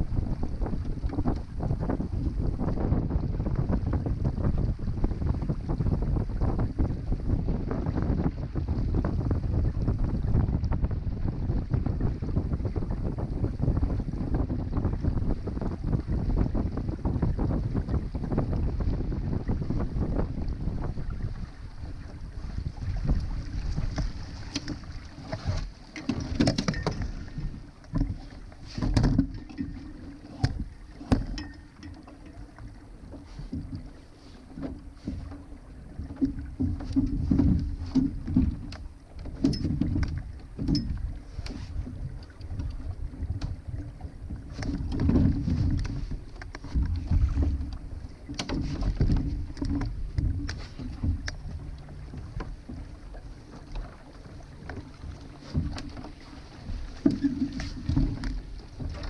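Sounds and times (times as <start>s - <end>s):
water slapping against hull: 0.0s - 59.0s
wind buffeting microphone: 0.0s - 59.0s.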